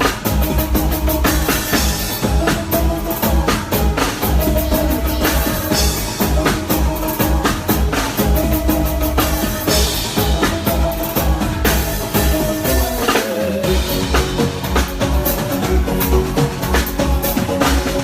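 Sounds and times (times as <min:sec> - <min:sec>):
drum kit beat: 0:00.0 - 0:18.0
heavy bass line: 0:00.0 - 0:18.0
keyboard or guitar tones: 0:00.0 - 0:18.0.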